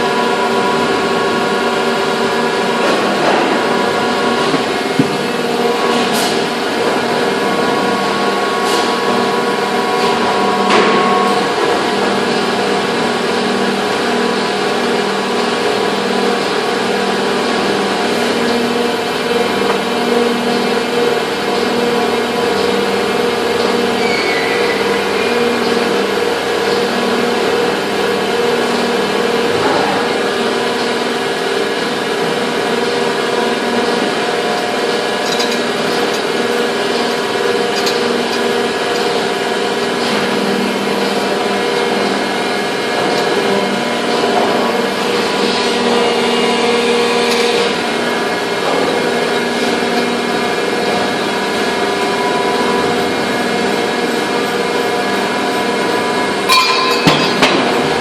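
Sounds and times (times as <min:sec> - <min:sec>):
factory machine drone: 0:00.0 - 0:58.0.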